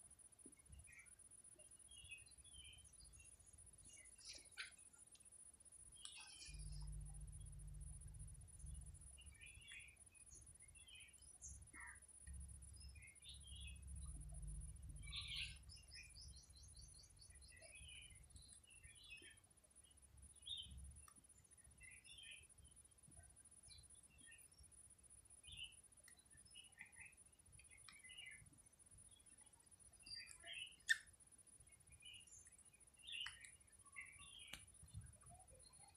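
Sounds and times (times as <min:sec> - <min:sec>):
bird chirps: 0:00.5 - 0:05.2, 0:05.8 - 0:24.7, 0:25.3 - 0:35.9.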